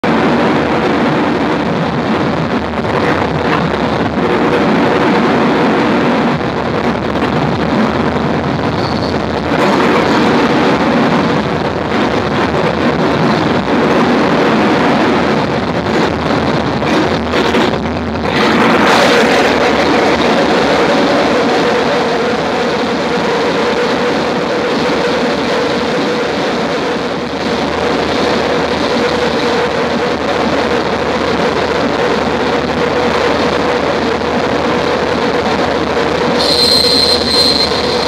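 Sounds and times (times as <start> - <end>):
distorted noise jam: 0.0 - 38.0
low droning tones: 0.0 - 38.0.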